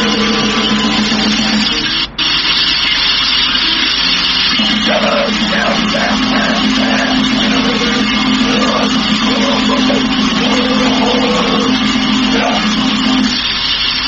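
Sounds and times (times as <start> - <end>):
distorted noise music: 0.0 - 14.0.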